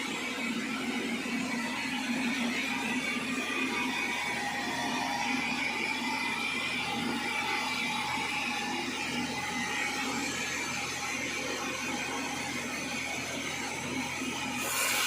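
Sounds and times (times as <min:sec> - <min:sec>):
sawmill machinery drone: 0:00.0 - 0:15.0.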